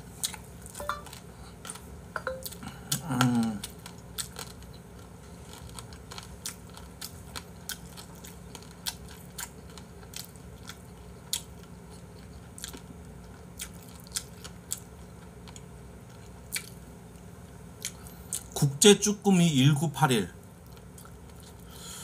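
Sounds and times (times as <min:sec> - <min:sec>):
low steady hum: 0:00.0 - 0:22.0
person chewing: 0:00.2 - 0:16.8, 0:20.6 - 0:21.7.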